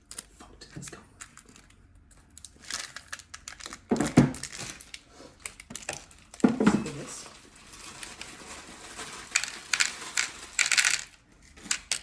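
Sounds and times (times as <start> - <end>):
plastic packaging crinkling: 1.2 - 12.0.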